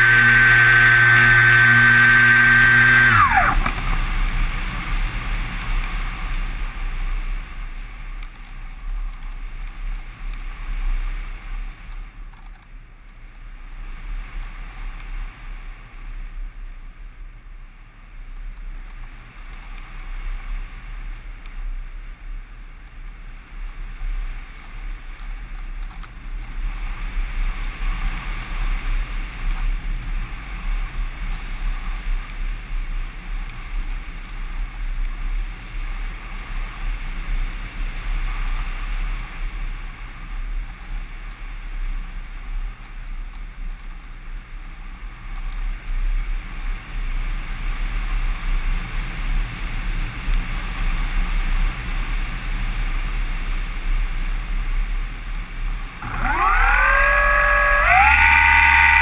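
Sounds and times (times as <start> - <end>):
wind rushing over camera: 0.0 - 59.0.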